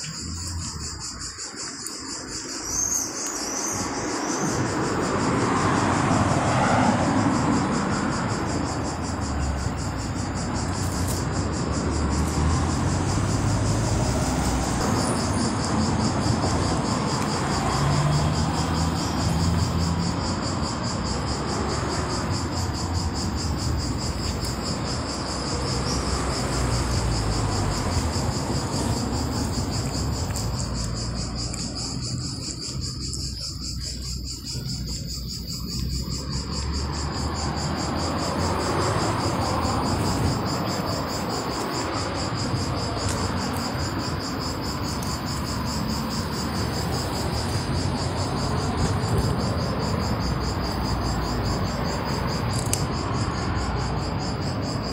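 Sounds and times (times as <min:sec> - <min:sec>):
insect trill: 0:00.0 - 0:54.9.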